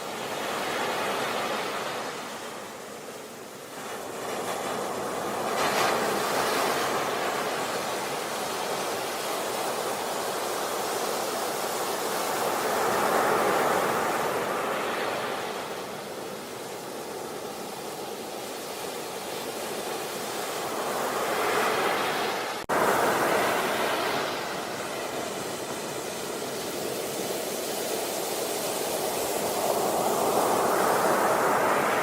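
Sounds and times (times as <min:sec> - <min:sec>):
sea waves breaking on a beach: 0:00.0 - 0:32.0.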